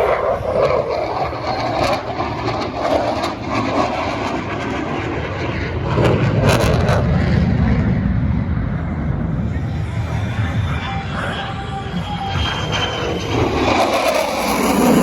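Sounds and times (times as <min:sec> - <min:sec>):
airplane engine rumble: 0:00.0 - 0:15.0.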